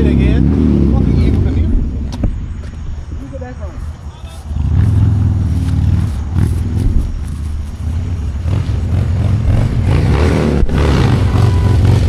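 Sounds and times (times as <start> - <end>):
car engine revving: 0.0 - 2.1, 4.4 - 12.0.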